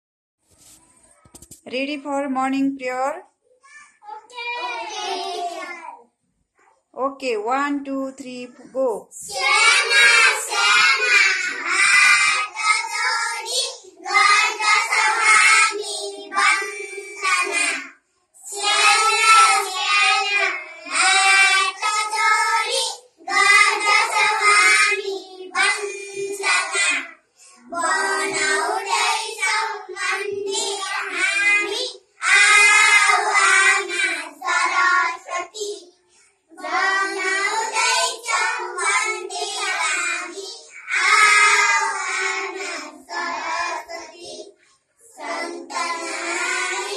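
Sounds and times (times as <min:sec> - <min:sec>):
children singing in unison: 0:04.4 - 0:05.7, 0:09.2 - 0:46.9.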